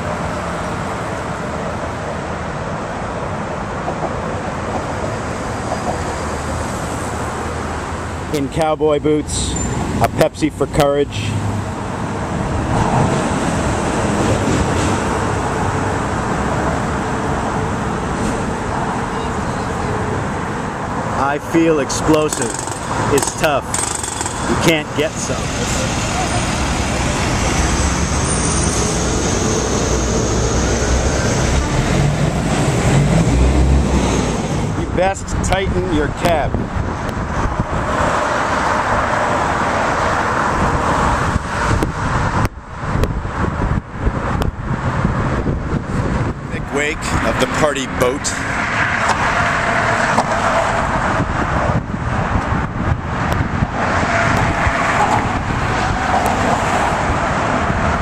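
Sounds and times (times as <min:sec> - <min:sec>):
cars and trucks passing: 0:00.0 - 0:58.0
traffic rumble and hiss: 0:00.0 - 0:58.0.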